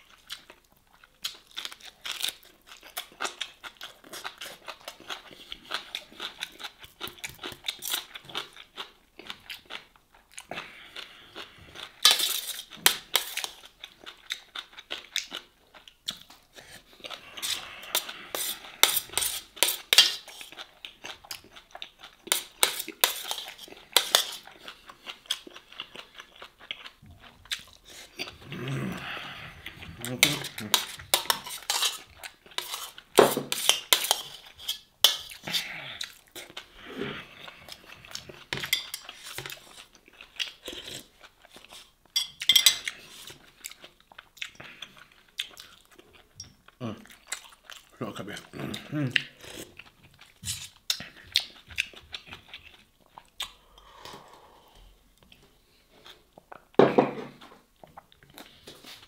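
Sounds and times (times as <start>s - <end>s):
wet chewing and crunching: 0.0s - 54.1s.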